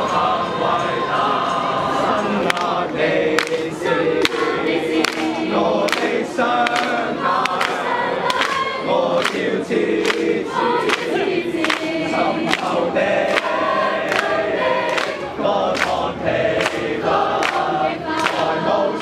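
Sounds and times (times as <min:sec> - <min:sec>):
group singing a carol: 0:00.0 - 0:19.0
hand claps on the beat: 0:02.4 - 0:19.0.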